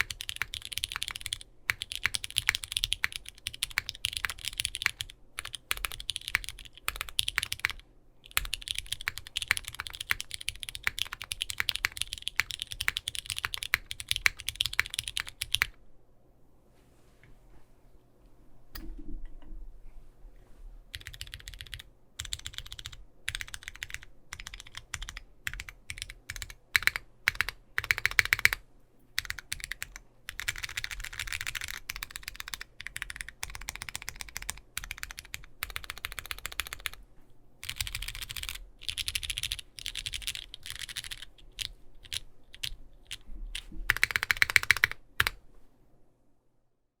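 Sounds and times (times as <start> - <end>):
mechanical keyboard typing: 0.0 - 15.8, 20.9 - 28.6, 29.2 - 37.0, 37.6 - 45.4.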